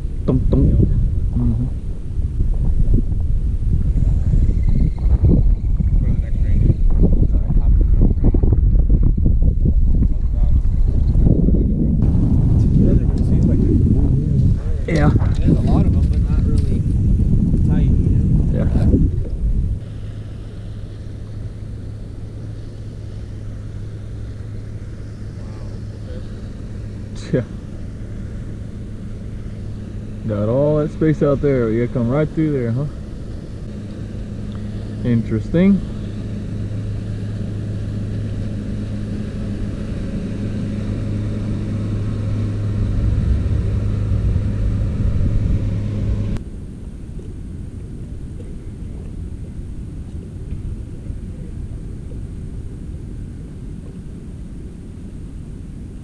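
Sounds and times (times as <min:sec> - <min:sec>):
boat motor humming: 0:00.0 - 0:56.0
faint wind and water rumble: 0:00.0 - 0:56.0.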